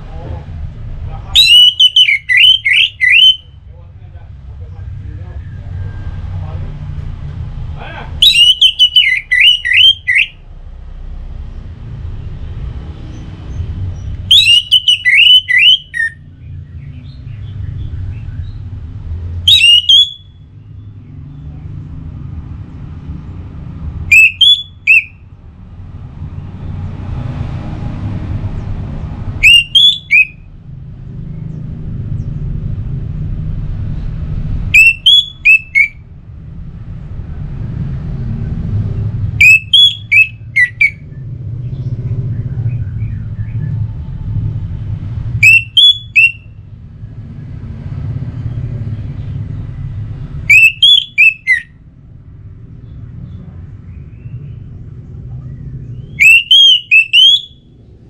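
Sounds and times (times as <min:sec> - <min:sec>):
low steady rumble: 0:00.0 - 0:58.0.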